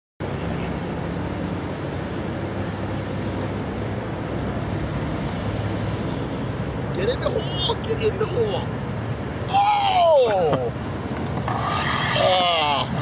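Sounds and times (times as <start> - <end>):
distant road traffic rumble: 0.2 - 13.0.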